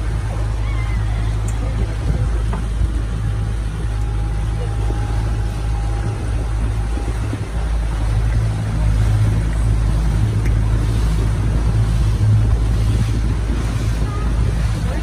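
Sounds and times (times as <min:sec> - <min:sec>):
small boat motor running: 0:00.0 - 0:15.0.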